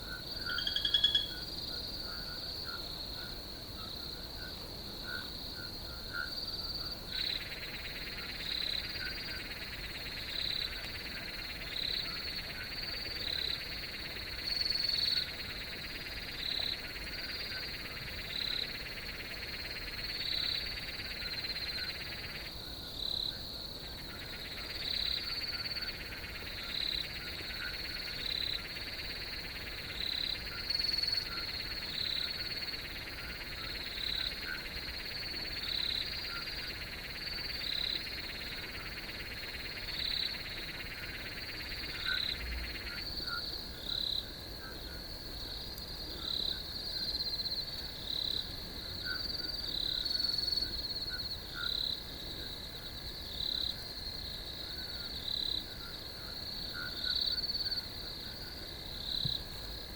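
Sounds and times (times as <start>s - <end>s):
cricket chirp: 0.0s - 59.9s
crickets trilling: 0.0s - 59.9s.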